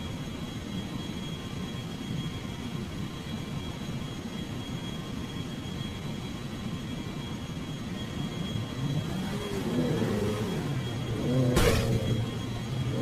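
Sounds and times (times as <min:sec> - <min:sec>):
faint high whining tones: 0:00.0 - 0:13.0.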